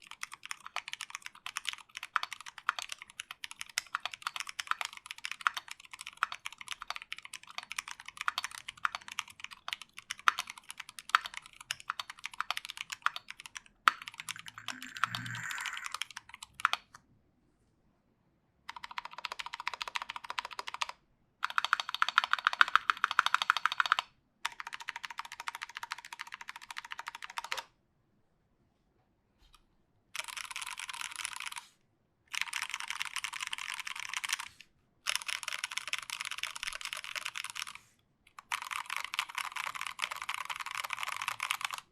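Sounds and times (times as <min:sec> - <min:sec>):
mechanical keyboard typing: 0:00.0 - 0:17.0, 0:18.7 - 0:27.7, 0:30.2 - 0:31.6, 0:32.3 - 0:41.9.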